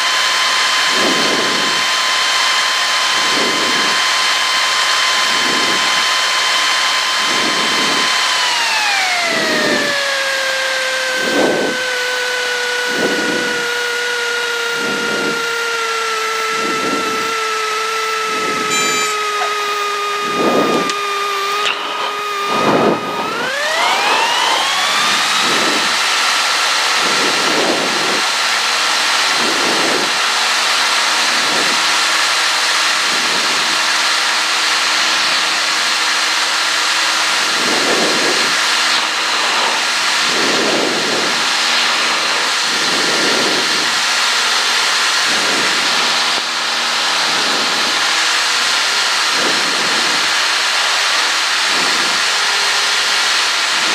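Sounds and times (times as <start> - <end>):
light aircraft engine: 0.0 - 53.9.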